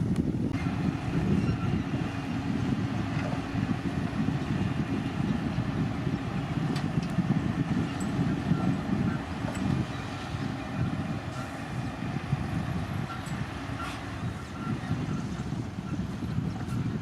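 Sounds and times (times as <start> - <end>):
diesel machinery engine rumble: 0.0 - 17.0.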